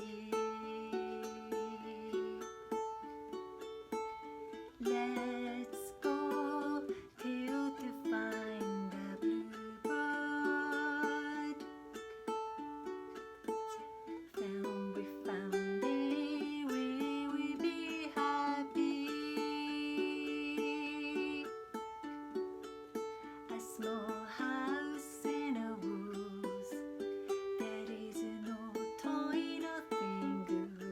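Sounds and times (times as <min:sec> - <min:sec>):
ukulele playing: 0:00.0 - 0:30.9.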